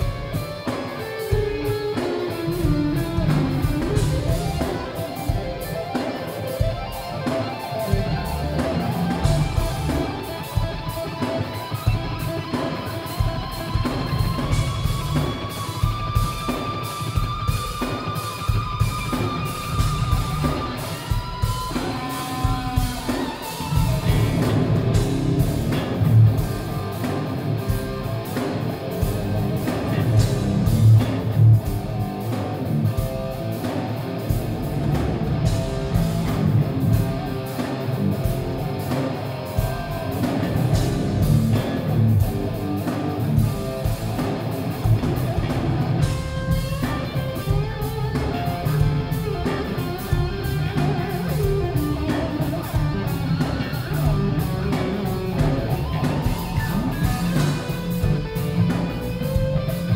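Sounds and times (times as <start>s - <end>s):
lead electric guitar: 0.0s - 59.9s
live rock band: 0.0s - 59.9s.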